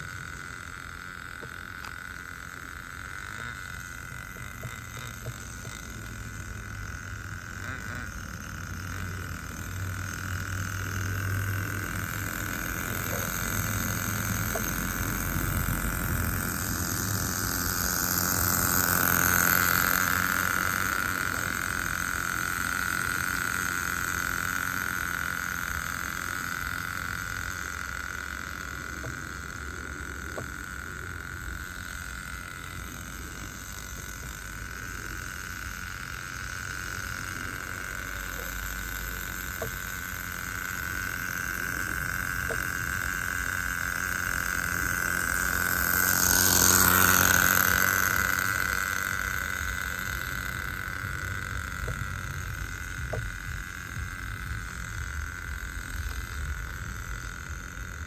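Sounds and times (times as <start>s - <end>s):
small engine high buzz: 0.0s - 58.0s.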